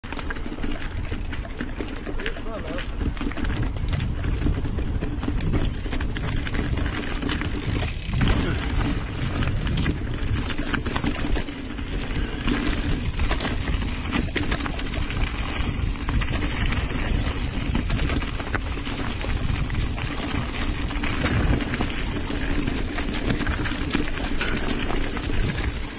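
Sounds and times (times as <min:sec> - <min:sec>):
bike rattling over rocks: 0:00.0 - 0:25.9
tyres rumbling on dirt trail: 0:00.0 - 0:25.9.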